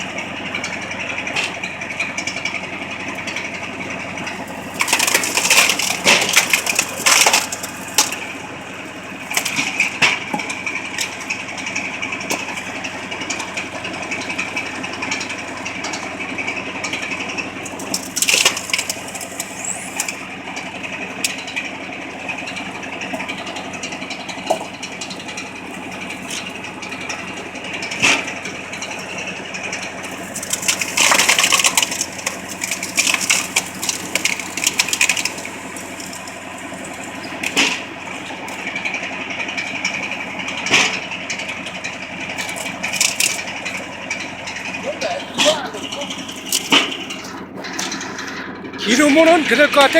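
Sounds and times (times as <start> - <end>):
log splitter splitting wood: 0.0 - 49.9
tractor engine hum: 0.0 - 49.9
wood cracking and splintering: 0.0 - 49.9.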